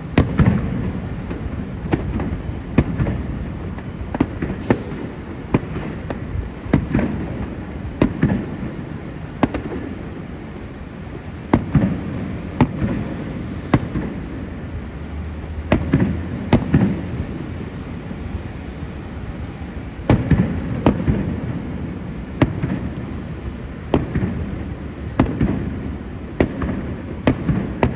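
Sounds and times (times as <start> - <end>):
firework bangs: 0.0 - 27.9.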